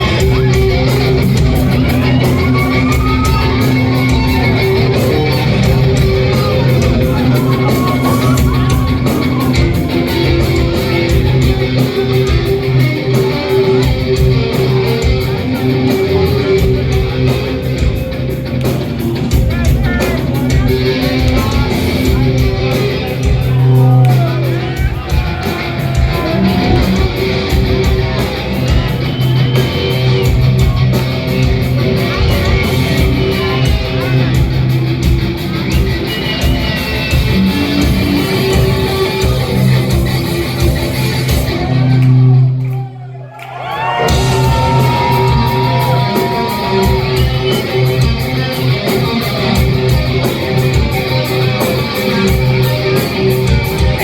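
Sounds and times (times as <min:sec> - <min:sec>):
distorted electric guitars: 0:00.0 - 0:42.6, 0:43.8 - 0:54.0
drums: 0:00.0 - 0:54.0.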